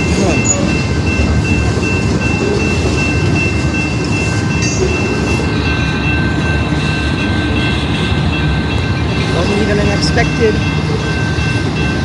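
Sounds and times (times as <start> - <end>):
train cars rumbling past: 0.0 - 12.0.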